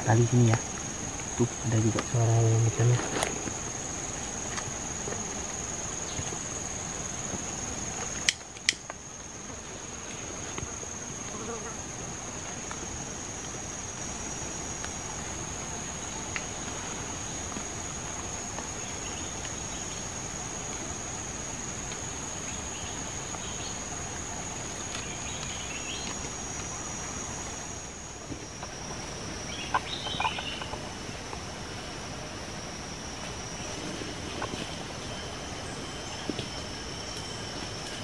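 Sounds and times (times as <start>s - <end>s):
high insect drone: 0.0s - 38.0s.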